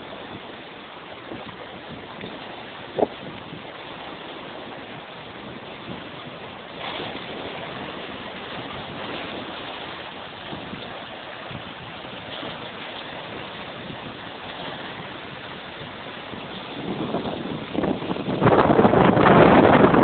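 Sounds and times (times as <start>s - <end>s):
rushing lake water: 0.0s - 20.0s.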